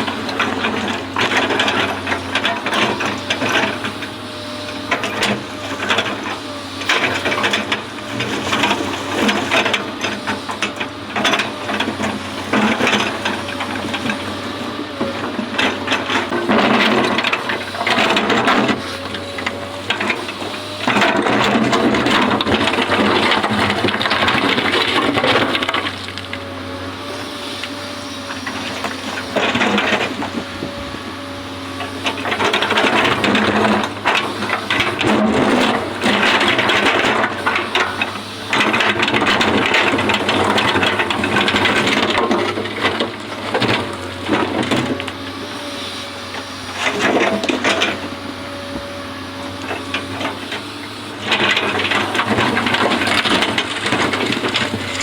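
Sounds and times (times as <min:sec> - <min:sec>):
excavator engine and hydraulics rattling: 0:00.0 - 0:55.0.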